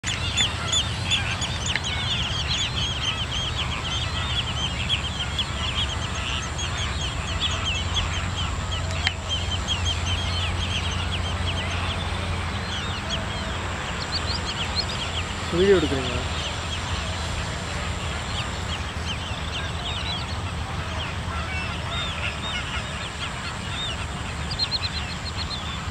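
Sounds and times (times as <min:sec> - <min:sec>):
flock of wading birds calling: 0:00.0 - 0:25.9
steady low hum: 0:00.0 - 0:25.9.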